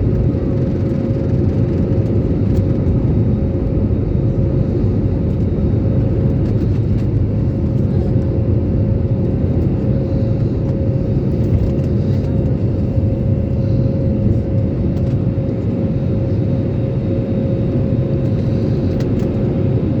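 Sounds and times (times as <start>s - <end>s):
airliner engine rumble: 0.0s - 20.0s
steady hum-like tone: 0.0s - 20.0s.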